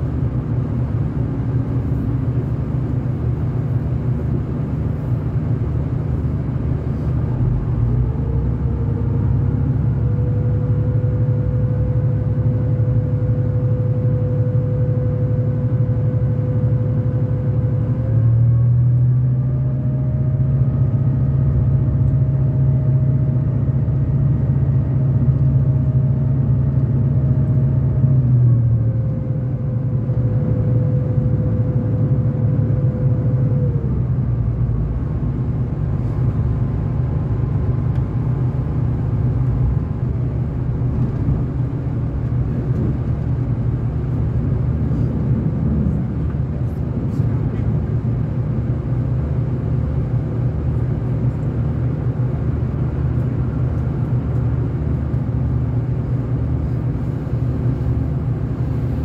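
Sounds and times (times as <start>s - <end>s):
diesel train rumble with whine: 0.0s - 59.0s.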